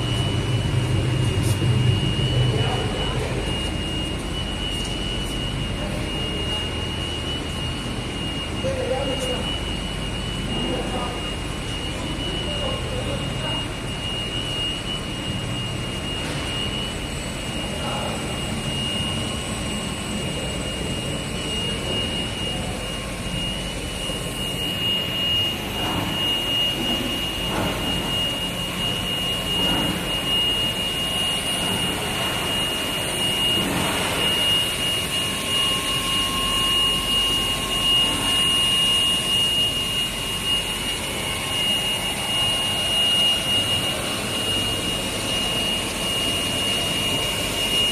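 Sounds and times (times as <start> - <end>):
high-pitched whine: 0.0 - 47.9
industrial machine drone: 0.0 - 47.9.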